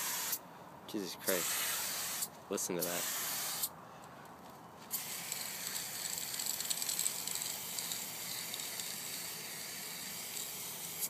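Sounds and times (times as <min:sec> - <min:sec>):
spray paint can hissing: 0:00.0 - 0:00.4, 0:01.3 - 0:03.7, 0:04.9 - 0:11.0.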